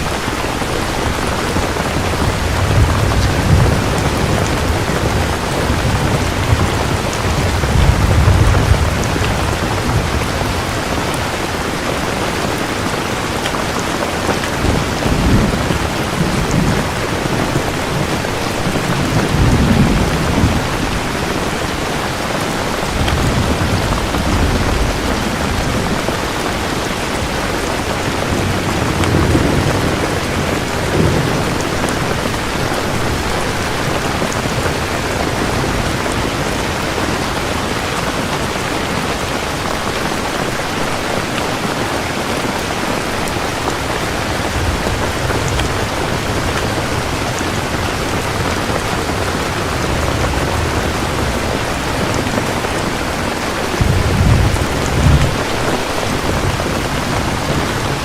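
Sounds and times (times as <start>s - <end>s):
rolling thunder: 0.0s - 13.4s, 14.2s - 37.8s, 43.5s - 58.0s
heavy rain: 0.0s - 58.0s.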